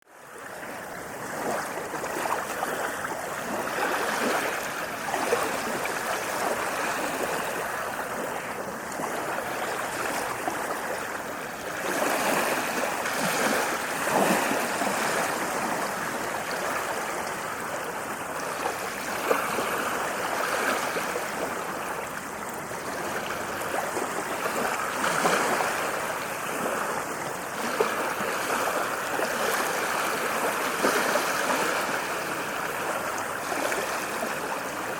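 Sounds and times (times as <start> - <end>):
waves washing onto beach: 0.1 - 34.9.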